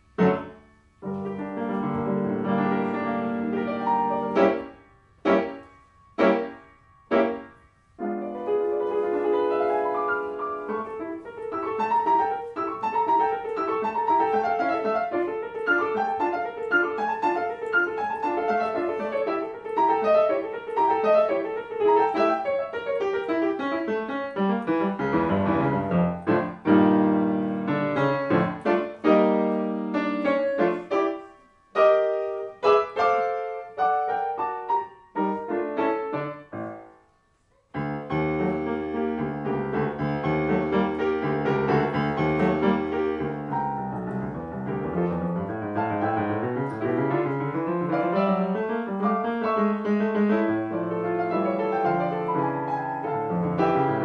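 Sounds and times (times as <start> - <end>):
solo classical piano: 0.0 - 54.0.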